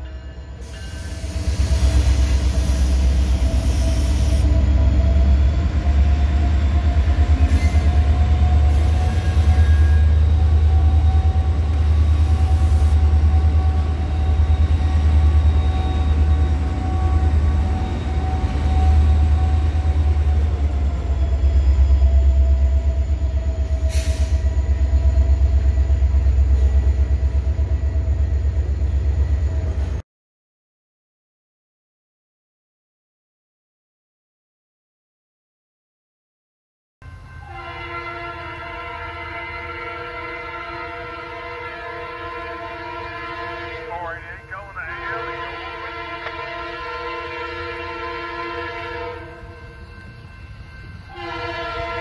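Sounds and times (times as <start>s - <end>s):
freight train rumble: 0.0s - 30.0s, 37.0s - 52.0s.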